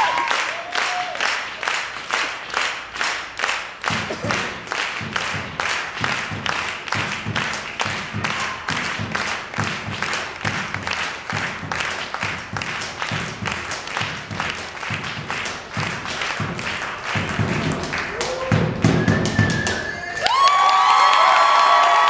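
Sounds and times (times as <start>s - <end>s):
crowd cheering: 0.0s - 2.9s, 3.9s - 13.2s, 13.9s - 22.0s.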